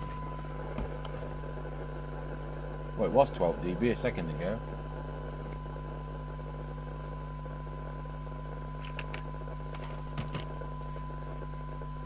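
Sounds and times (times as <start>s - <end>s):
mains hum: 0.0s - 12.0s
steady test tone: 0.0s - 12.0s.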